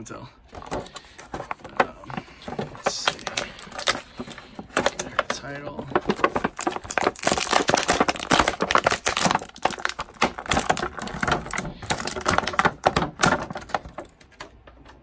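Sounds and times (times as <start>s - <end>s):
plastic bag crinkling: 0.5s - 14.4s.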